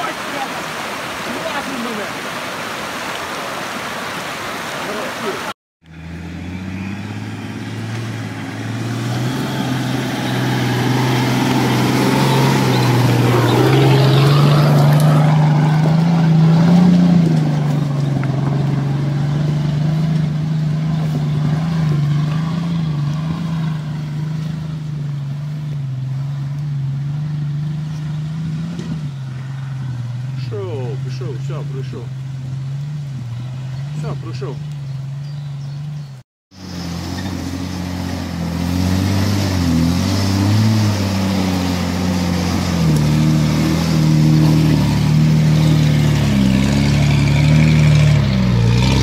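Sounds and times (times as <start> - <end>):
engine pulling under load: 5.8 - 49.0.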